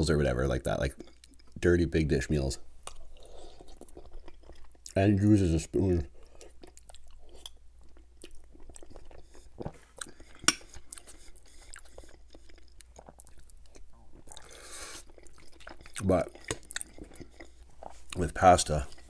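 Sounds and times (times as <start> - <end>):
chewing and wet mouth sounds: 0.0 - 2.0, 2.8 - 19.0.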